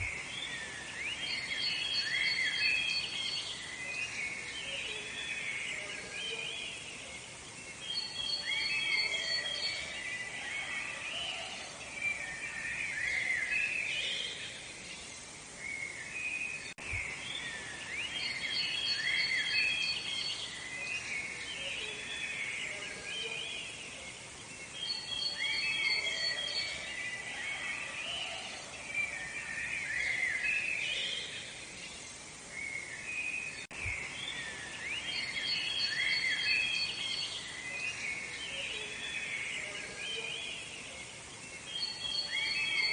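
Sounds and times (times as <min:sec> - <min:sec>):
birds singing and chirping: 0:00.0 - 0:42.9
soft background hiss: 0:00.0 - 0:42.9.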